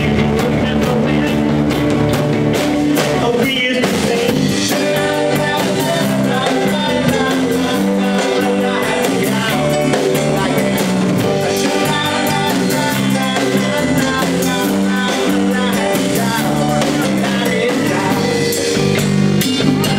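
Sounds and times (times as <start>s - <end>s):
man singing into a microphone: 0.0s - 1.6s, 3.1s - 18.7s
drum kit: 0.0s - 19.9s
electric bass: 0.0s - 19.9s
organ: 0.0s - 19.9s.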